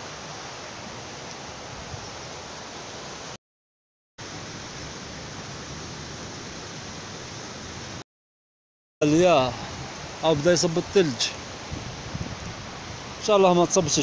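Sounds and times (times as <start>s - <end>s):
stream and small waterfall rushing: 0.0s - 3.4s, 4.2s - 8.0s, 9.0s - 14.0s.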